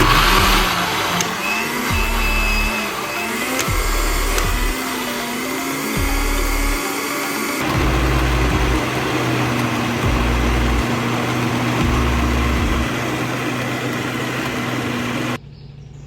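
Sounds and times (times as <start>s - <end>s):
blender motor running: 0.0s - 15.4s.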